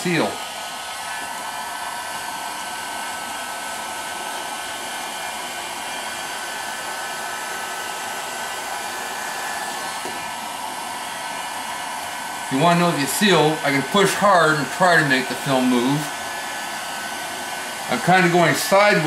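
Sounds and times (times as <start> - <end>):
heat gun blowing with whine: 0.0 - 19.0.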